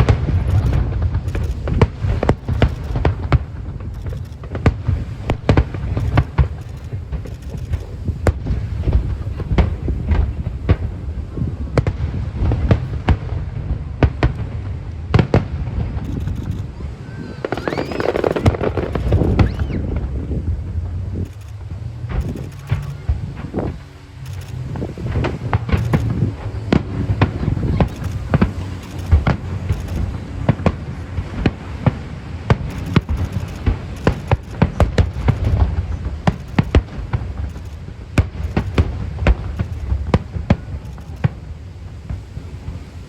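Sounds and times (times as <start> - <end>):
continuous low rumble: 0.0 - 43.0
fireworks cracks and booms: 0.0 - 43.0.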